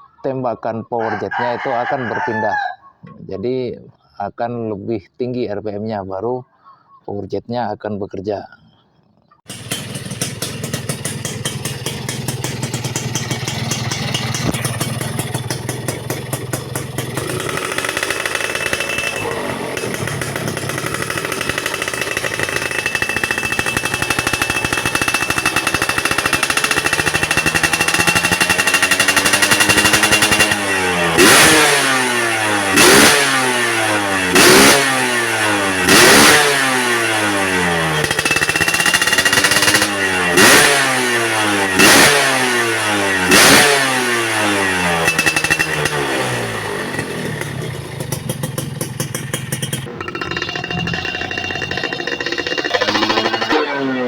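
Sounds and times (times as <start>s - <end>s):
two-stroke engine revving: 9.5s - 54.0s.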